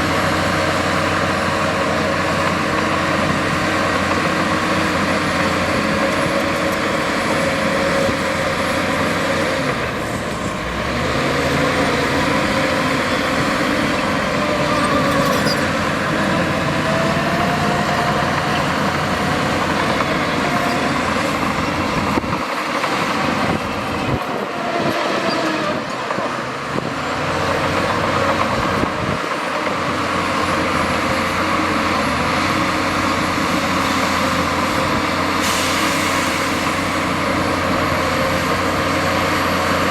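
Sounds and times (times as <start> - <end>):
earthmoving machinery diesel engine: 0.0 - 39.9.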